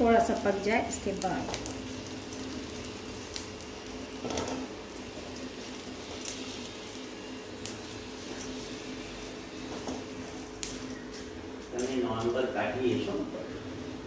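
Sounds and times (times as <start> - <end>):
spices sizzling in oil: 0.0 - 14.0.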